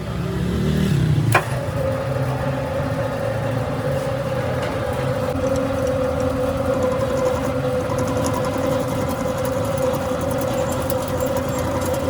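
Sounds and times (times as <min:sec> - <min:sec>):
lathe whining: 0:01.2 - 0:12.0
low machine hum: 0:01.2 - 0:12.0.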